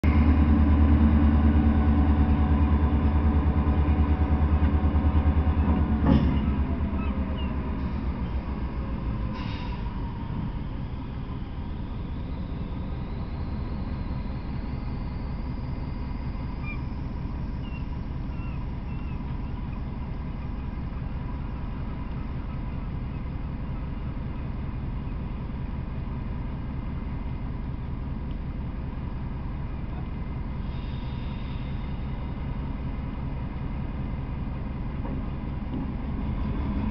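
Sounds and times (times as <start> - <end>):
diesel locomotive engine rumbling: 0.0 - 36.9.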